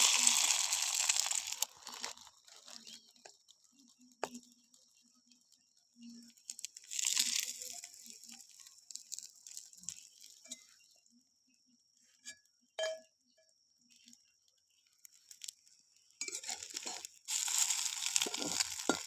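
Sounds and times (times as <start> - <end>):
crinkling handling noise: 0.0 - 10.6, 13.9 - 19.0.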